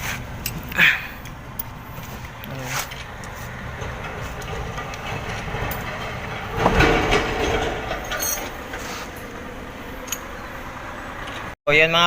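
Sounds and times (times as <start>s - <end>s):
heavy engine rumble: 0.0s - 11.6s.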